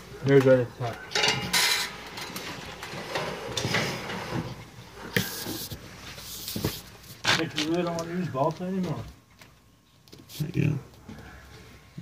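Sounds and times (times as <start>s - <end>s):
rustling and scraping of handling: 0.1s - 12.0s.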